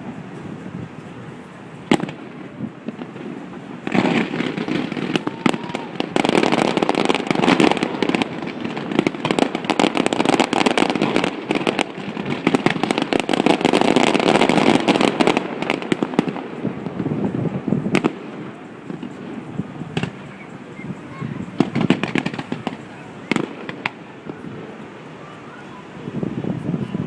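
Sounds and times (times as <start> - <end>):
fireworks bursting and crackling: 0.0 - 27.0.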